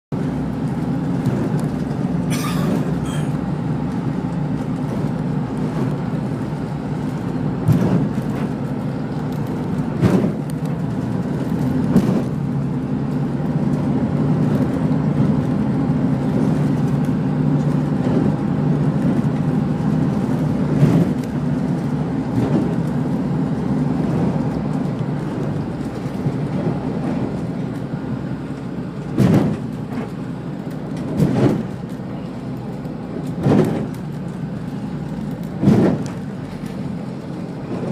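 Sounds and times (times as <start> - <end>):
boat engine droning: 0.1 - 37.9
hull thudding on waves: 0.2 - 37.9.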